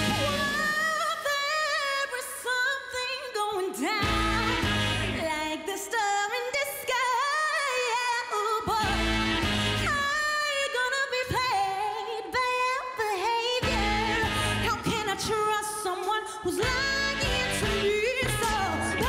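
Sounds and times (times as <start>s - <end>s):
woman singing pop song: 0.0s - 19.0s.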